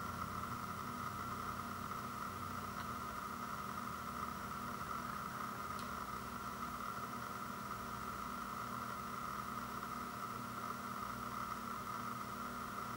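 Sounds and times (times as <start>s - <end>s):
faint constant hum: 0.0s - 12.9s.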